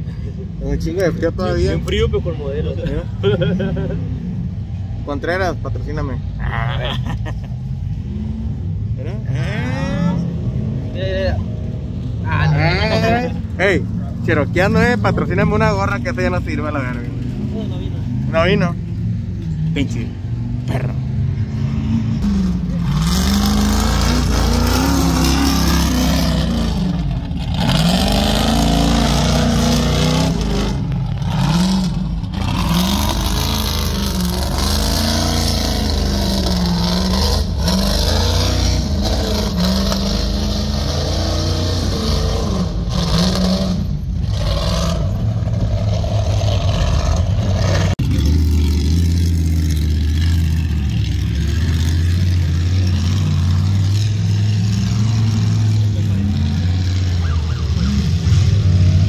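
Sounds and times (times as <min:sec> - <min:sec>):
race car engine revving: 0:07.0 - 0:59.0.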